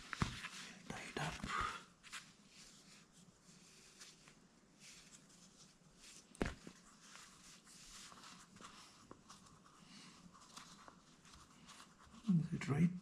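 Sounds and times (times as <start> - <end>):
faint rustling of a lace: 0.0 - 13.0.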